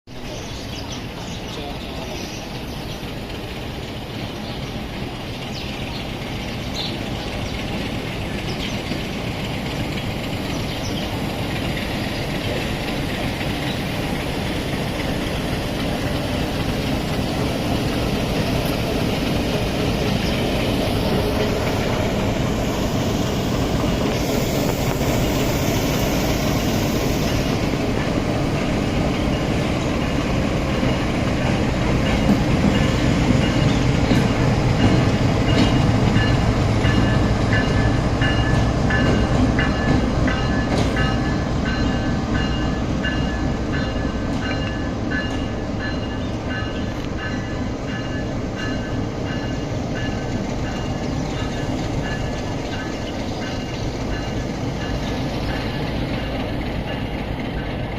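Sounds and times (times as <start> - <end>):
train rumbling: 0.0 - 57.9.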